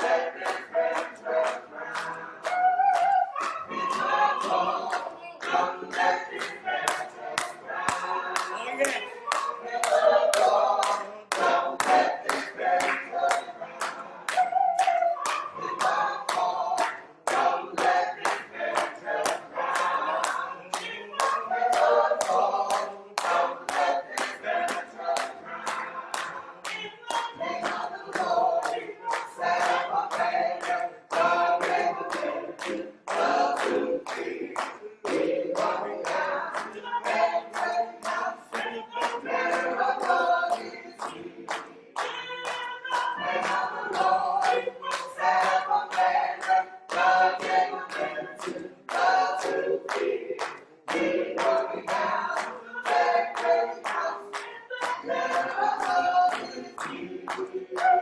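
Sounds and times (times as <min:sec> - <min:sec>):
choir singing a cappella: 0:00.0 - 0:58.0
hand clapping on the beat: 0:00.0 - 0:58.0.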